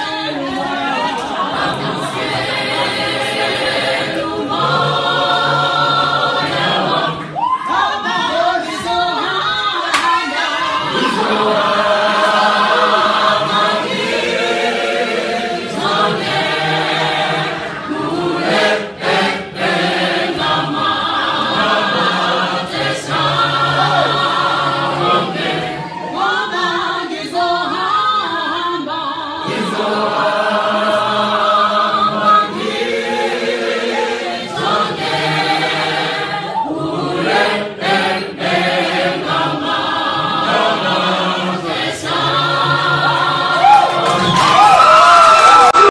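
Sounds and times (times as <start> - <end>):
mixed choir singing a cappella: 0.0 - 44.7.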